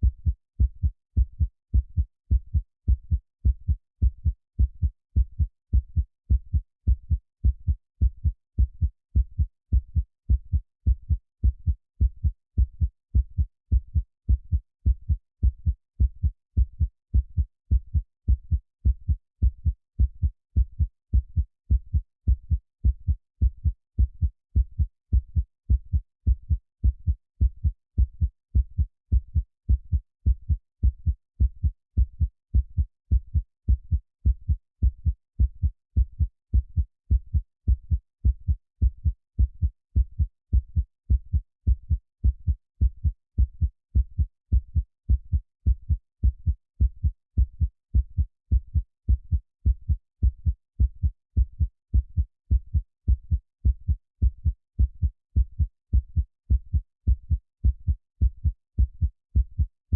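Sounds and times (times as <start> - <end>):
heartbeat thumps: 0.0 - 59.7.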